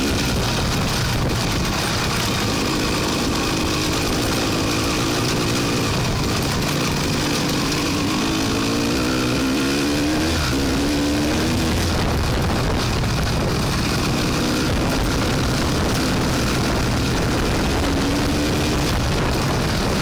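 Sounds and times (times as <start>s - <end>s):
off-road vehicle engine: 0.0s - 20.0s
steady rushing noise: 0.0s - 20.0s.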